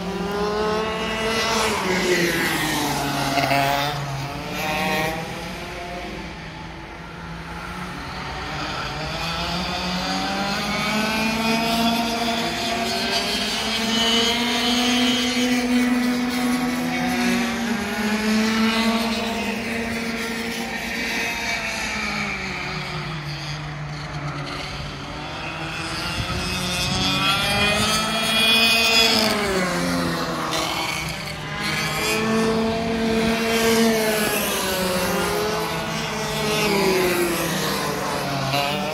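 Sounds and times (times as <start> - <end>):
racing kart engines: 0.0 - 38.9.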